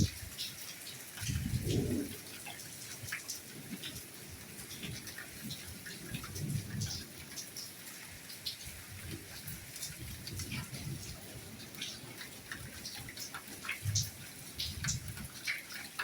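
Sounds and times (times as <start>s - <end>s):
rain falling: 0.0s - 16.0s
raindrops ticking: 0.0s - 16.0s.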